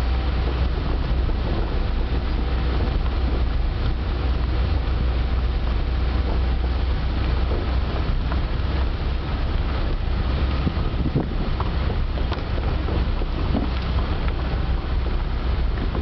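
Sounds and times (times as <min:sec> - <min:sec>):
train wheels rumbling on rails: 0:00.0 - 0:16.0
wind on microphone: 0:00.0 - 0:16.0.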